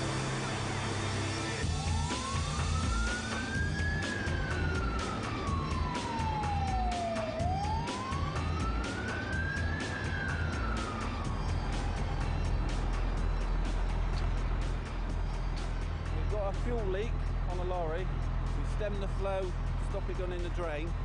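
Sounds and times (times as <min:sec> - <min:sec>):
fire engine siren wailing: 0:00.0 - 0:21.0.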